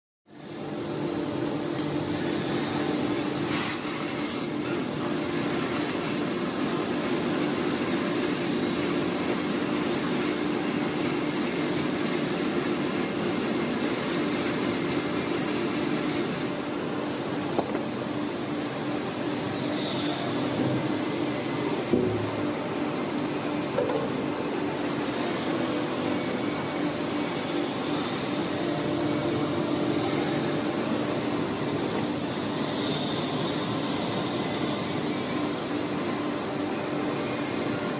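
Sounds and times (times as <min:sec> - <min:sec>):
vacuum cleaner running: 0:00.5 - 0:37.9.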